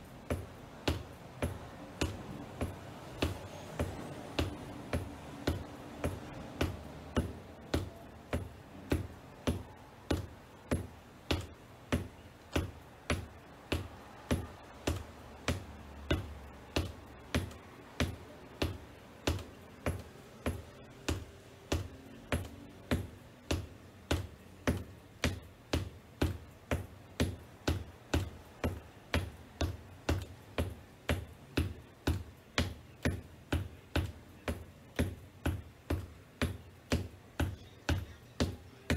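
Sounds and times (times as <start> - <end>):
shoes tapping on wooden floor: 0.0 - 38.9.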